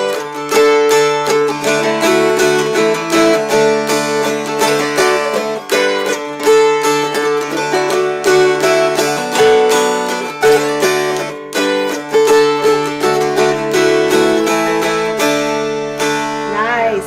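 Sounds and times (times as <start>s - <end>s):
dulcimers strummed: 0.0s - 17.0s.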